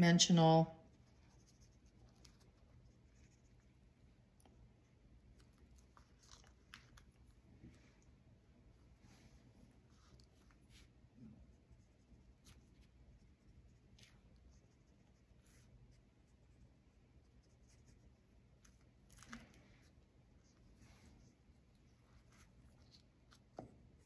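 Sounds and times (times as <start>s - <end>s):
faint room hum: 0.0s - 24.0s
paintbrush strokes on paper: 0.8s - 4.0s, 5.2s - 24.0s.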